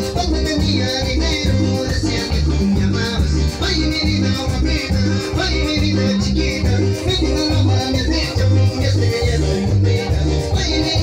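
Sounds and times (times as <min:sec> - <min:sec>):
bass line: 0:00.0 - 0:11.0
latin dance music: 0:00.0 - 0:11.0.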